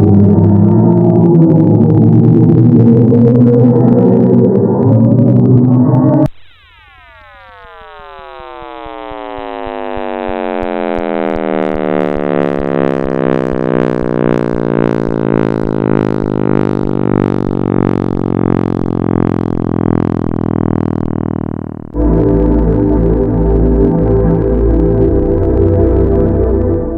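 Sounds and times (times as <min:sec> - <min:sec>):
deep electronic drone: 0:00.0 - 0:26.9.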